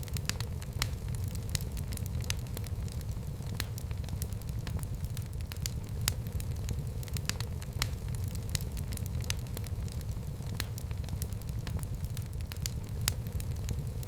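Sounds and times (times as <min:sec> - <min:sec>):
fire crackles and pops: 0:00.0 - 0:14.0
fire rumbling in fireplace: 0:00.0 - 0:14.0.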